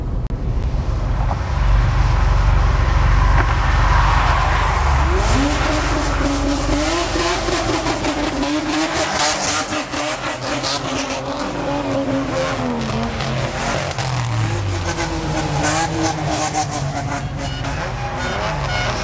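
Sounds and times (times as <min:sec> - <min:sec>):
exhaust crackling: 0:00.0 - 0:19.0
engine revving: 0:00.5 - 0:19.0.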